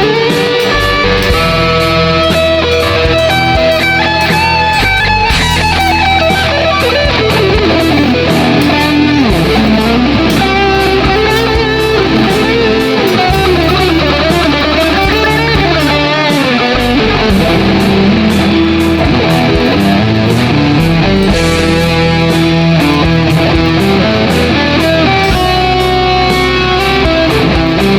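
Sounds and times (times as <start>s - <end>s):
electric guitar lead with bends: 0.0s - 27.9s
sustained low bass notes: 0.0s - 27.9s.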